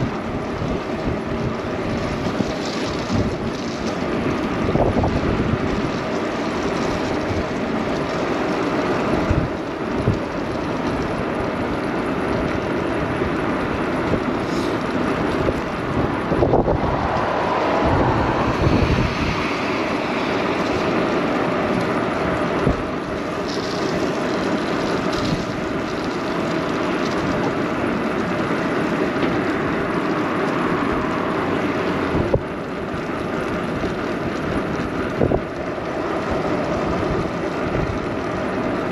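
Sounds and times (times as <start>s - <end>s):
road and traffic noise: 0.0s - 38.9s
wind rushing over microphone: 0.0s - 38.9s.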